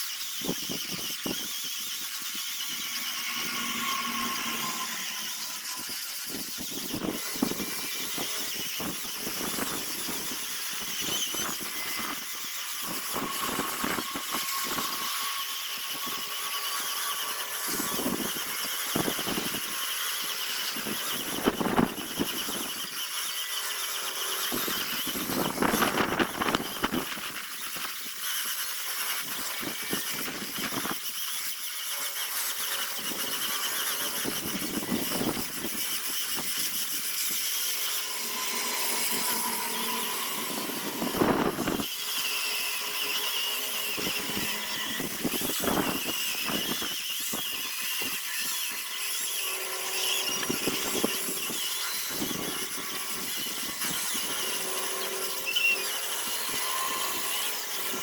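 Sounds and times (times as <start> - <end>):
power sander whining: 0.0 - 58.0
sander scraping wood: 0.0 - 58.0.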